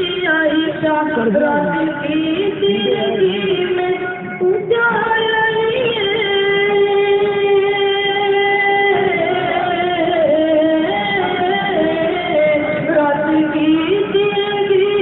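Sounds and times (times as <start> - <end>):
person singing long notes: 0.0 - 15.0.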